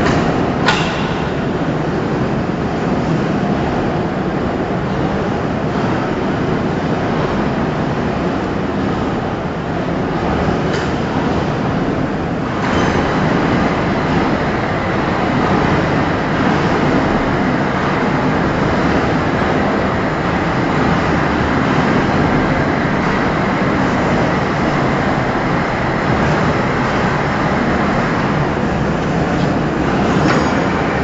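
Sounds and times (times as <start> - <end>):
overhead crane running: 0.0 - 31.0.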